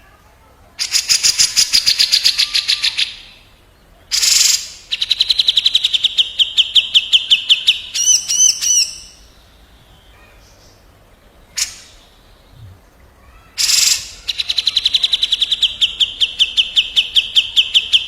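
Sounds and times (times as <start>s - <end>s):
birds calling: 0.8s - 18.0s.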